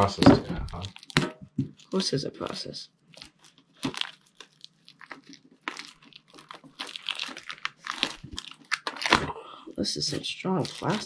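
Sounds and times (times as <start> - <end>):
plastic packaging crinkling and tearing: 0.0 - 9.3, 10.1 - 11.0.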